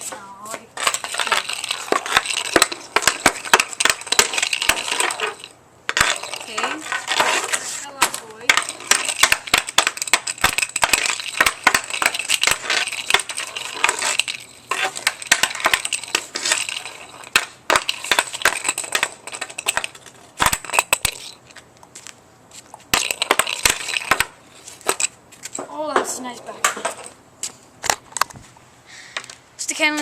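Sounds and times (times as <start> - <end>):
hockey stick clacking on puck: 0.0 - 21.5, 23.0 - 27.1.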